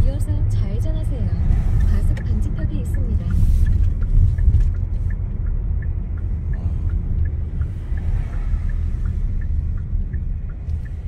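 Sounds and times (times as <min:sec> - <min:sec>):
road and engine rumble: 0:00.0 - 0:11.0
faint light ticks: 0:01.5 - 0:11.0.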